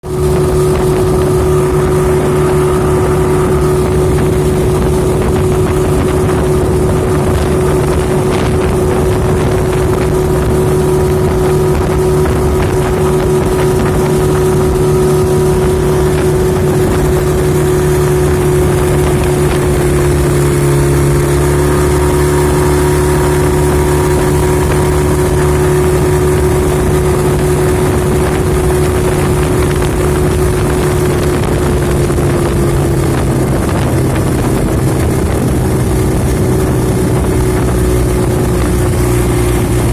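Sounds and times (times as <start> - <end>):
engine droning: 0.0 - 39.9.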